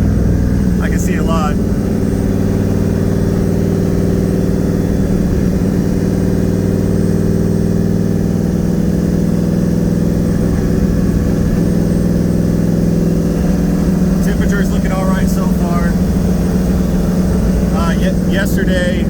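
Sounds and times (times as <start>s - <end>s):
car engine cruising from inside cabin: 0.0s - 19.0s.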